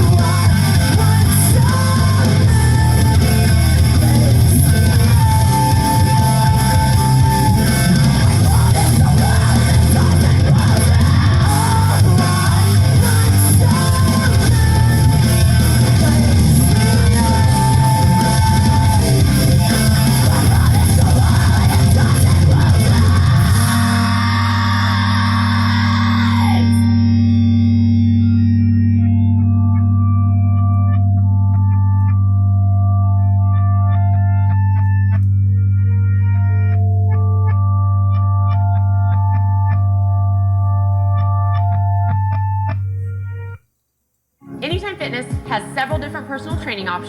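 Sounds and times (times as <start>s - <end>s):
rock music: 0.0s - 43.6s, 44.4s - 47.0s.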